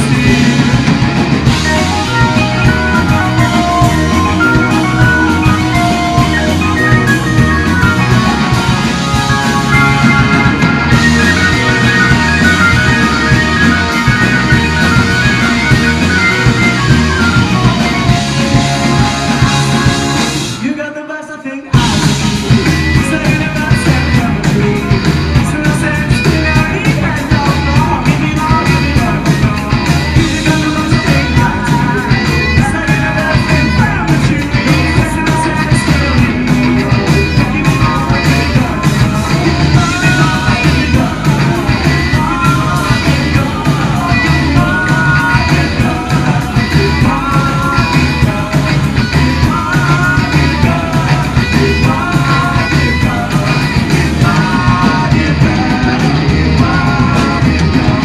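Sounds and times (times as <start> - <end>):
blues-rock band playing: 0.0 - 20.8, 21.7 - 58.0.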